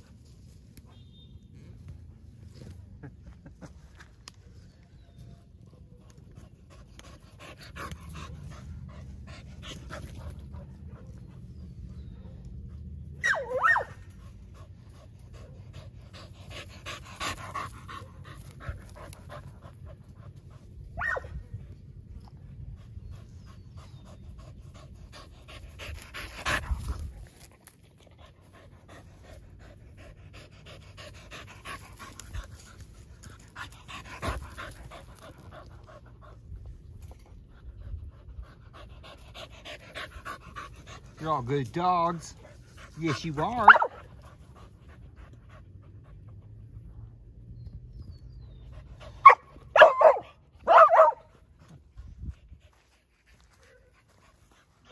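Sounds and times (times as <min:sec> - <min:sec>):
dogs panting: 0:05.4 - 0:13.2, 0:14.0 - 0:21.0, 0:21.9 - 0:54.9.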